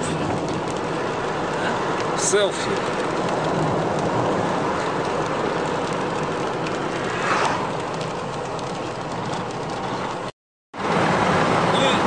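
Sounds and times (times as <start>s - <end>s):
raindrops ticking on windshield: 0.0s - 10.3s
car road and engine noise: 0.0s - 12.0s.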